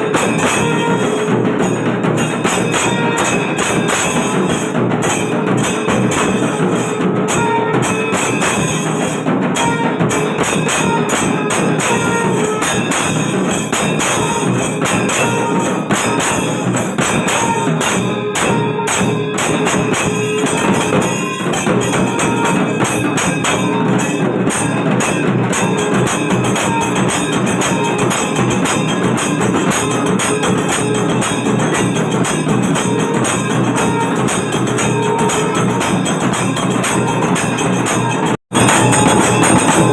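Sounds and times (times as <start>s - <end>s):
drums: 0.0s - 39.9s
hand cymbals: 0.0s - 39.9s.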